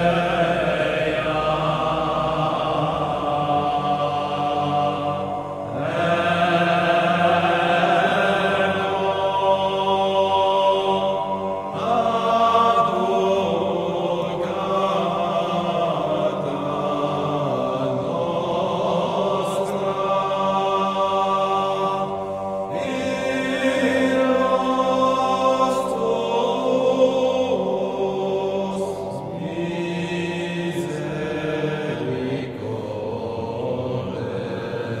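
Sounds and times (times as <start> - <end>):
chant-style vocal music: 0.0 - 35.0.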